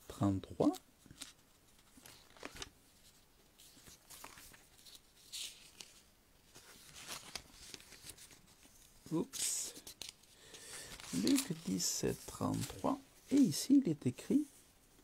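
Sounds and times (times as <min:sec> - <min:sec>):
pages rustling and flicking: 0:00.6 - 0:14.4.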